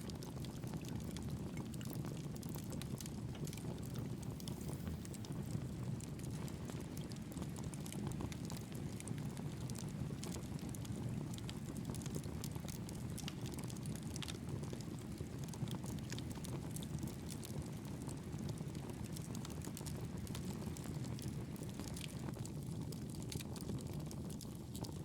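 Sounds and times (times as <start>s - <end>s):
campfire crackling: 0.1s - 25.0s.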